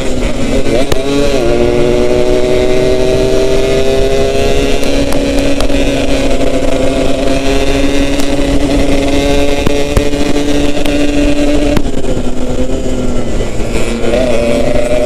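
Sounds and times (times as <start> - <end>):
motorcycle engine cruising: 0.0 - 15.0
wind rumble: 0.0 - 15.0.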